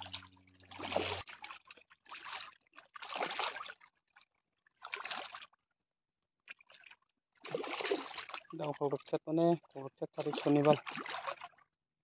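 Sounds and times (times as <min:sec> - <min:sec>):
water splashing in a pond: 0:00.0 - 0:05.8, 0:06.4 - 0:11.8.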